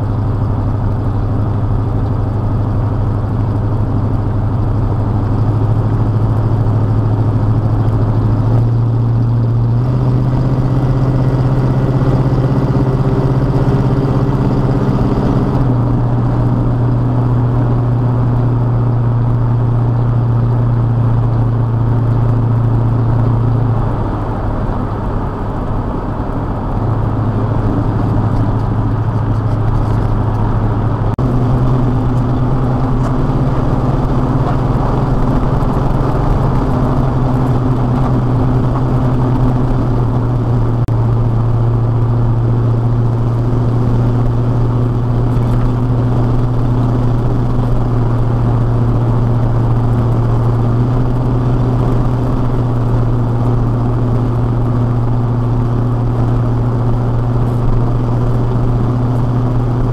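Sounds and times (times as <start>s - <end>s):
pickup truck engine running: 0.0s - 59.9s.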